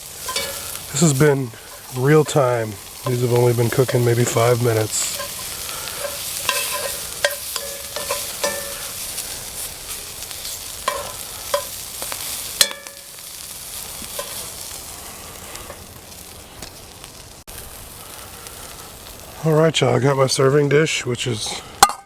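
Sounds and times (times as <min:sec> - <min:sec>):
sprouts sizzling in a skillet: 0:00.0 - 0:22.0.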